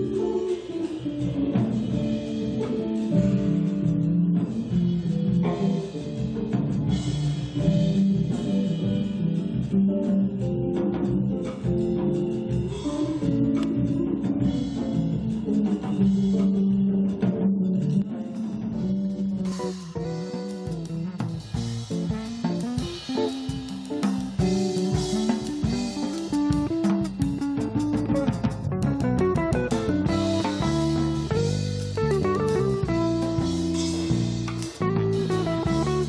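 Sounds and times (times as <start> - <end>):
drum kit: 0.0 - 36.0
electric bass: 0.0 - 36.0
electric guitar: 0.0 - 36.0.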